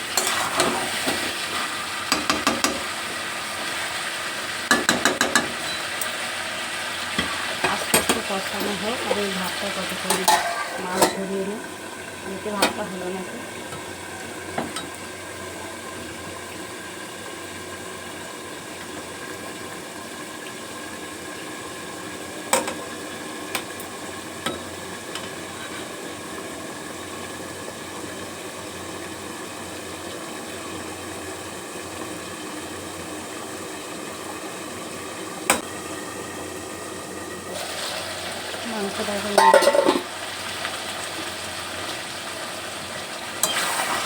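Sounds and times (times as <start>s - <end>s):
pots bubbling on stove: 0.0s - 44.0s.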